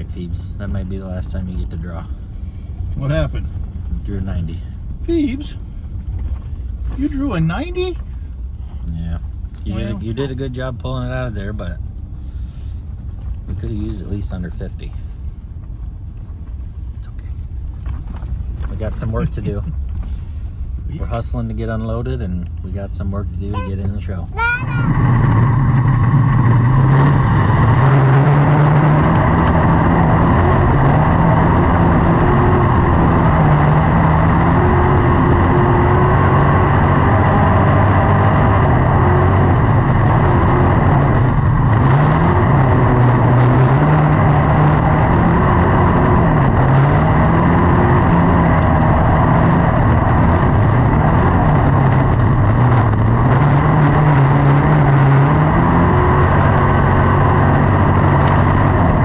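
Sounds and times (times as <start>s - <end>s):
race car engine: 0.0s - 15.4s, 16.2s - 59.0s.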